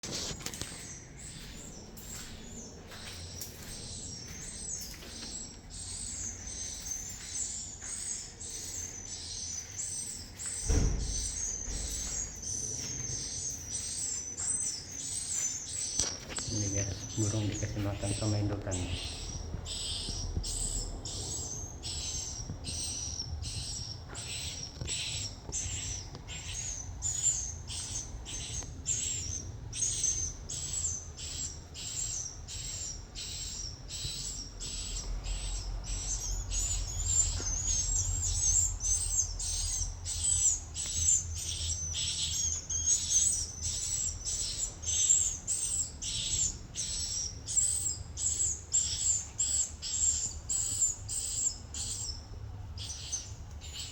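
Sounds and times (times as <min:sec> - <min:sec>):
chicks begging chirps: 0:00.0 - 0:53.9.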